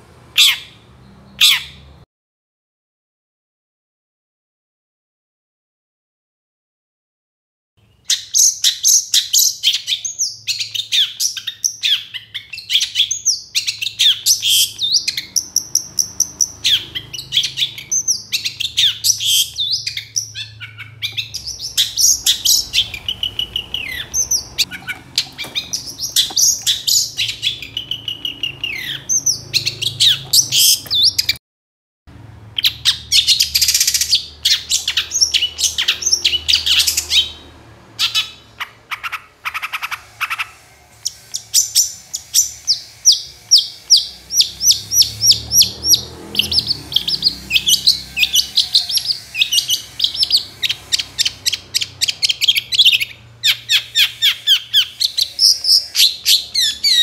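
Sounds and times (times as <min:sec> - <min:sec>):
bird chattering and whistling: 0:08.0 - 0:31.4, 0:32.6 - 0:57.0.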